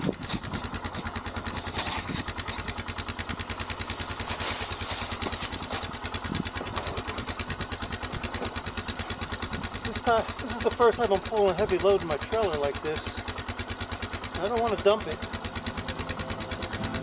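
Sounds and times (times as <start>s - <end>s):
quad engine running slowly: 0.0s - 17.0s.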